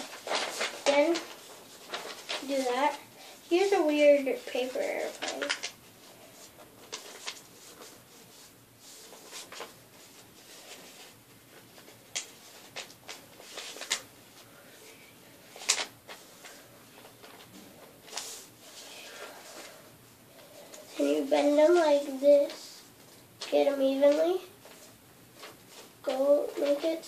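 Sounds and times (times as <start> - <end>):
paper folding and rustling: 0.0 - 14.7, 15.3 - 27.0.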